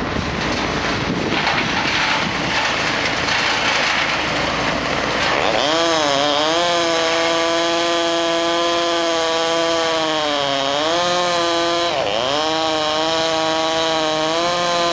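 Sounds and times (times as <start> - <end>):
chainsaw cutting: 1.5 - 14.9.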